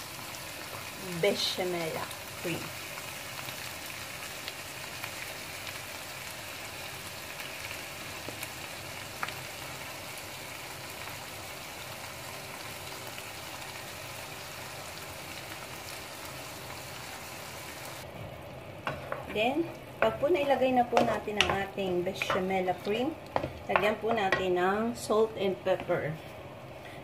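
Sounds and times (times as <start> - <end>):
food sizzling in a wok: 0.0 - 26.7.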